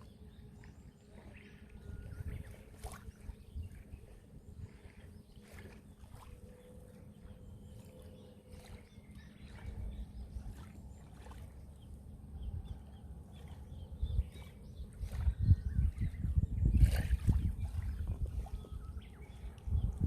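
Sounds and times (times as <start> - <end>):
faint splashes: 0.0 - 16.0, 16.8 - 20.0.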